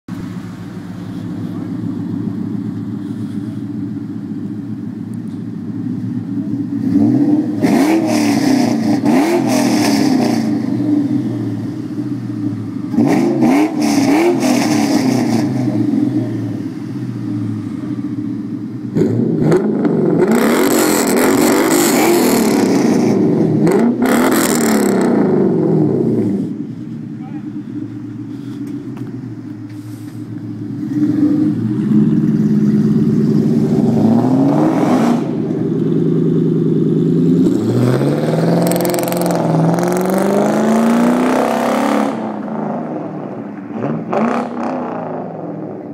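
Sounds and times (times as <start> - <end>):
car exhaust idling and revving: 0.1 - 45.9.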